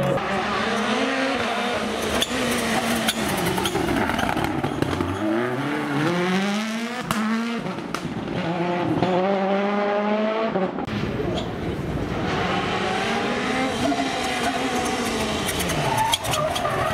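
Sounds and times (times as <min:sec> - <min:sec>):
rally car engines revving hard: 0:00.0 - 0:16.9.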